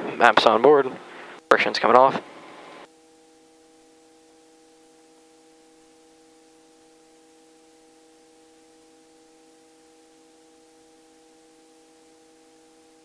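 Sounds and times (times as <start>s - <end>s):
steady humming tones: 0.0s - 13.0s.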